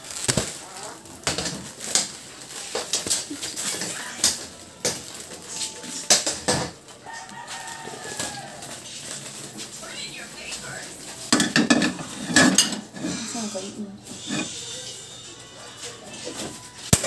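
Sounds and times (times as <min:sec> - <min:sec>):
dishes and utensils clattering: 0:01.1 - 0:09.7, 0:11.1 - 0:17.0.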